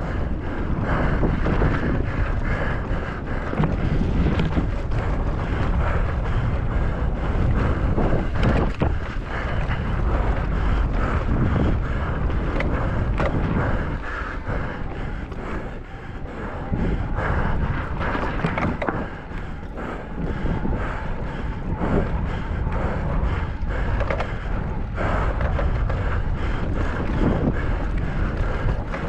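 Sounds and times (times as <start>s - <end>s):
bike rattling and knocking: 0.0s - 16.0s, 16.6s - 29.0s
wind buffeting microphone: 0.0s - 29.0s.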